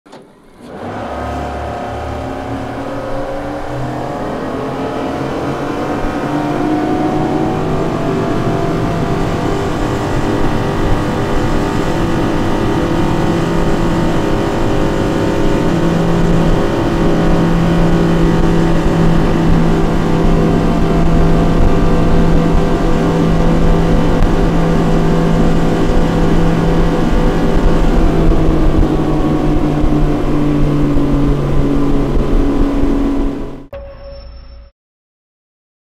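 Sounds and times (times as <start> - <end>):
outboard engines accelerating: 0.1 - 33.7.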